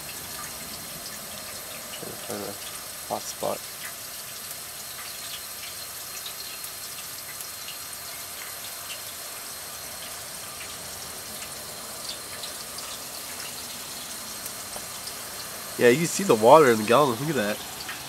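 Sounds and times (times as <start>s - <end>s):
water boiling with popping bubbles: 0.0s - 18.0s.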